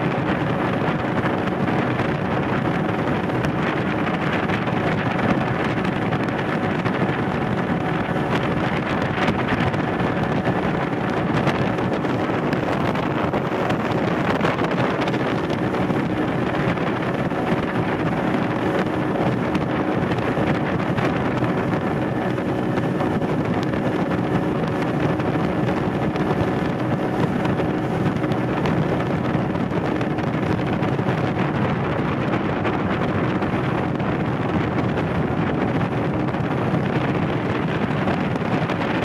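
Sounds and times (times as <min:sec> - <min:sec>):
motorboat engine drone: 0:00.0 - 0:39.0
wind buffeting microphone: 0:00.0 - 0:39.0.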